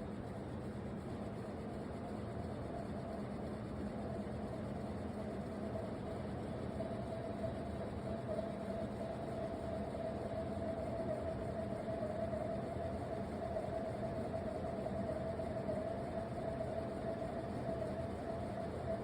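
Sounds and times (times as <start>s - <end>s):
ceiling fan whine: 0.0s - 19.0s.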